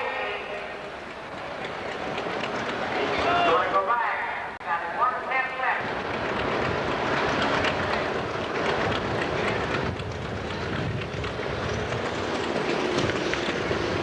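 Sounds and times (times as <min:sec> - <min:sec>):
pulling tractor engine running: 0:00.0 - 0:03.8, 0:05.4 - 0:14.0.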